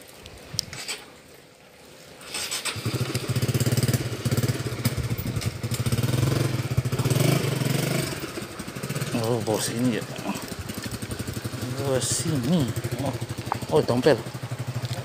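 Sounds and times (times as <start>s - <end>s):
small engine running: 2.3s - 15.0s.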